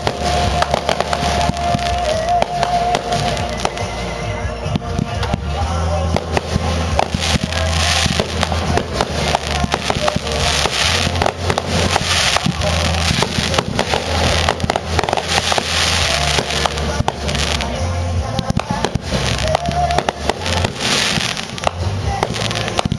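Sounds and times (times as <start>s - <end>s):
fireworks bangs and crackling: 0.0s - 22.9s
music playing: 0.0s - 22.9s.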